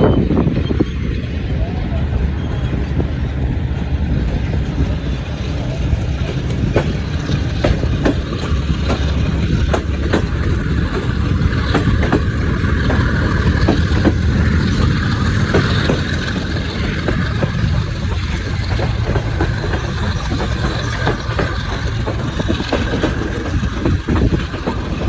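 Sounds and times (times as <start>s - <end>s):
train rumbling on track: 0.0s - 25.0s
wheels click-clacking over rail joints: 0.1s - 25.0s.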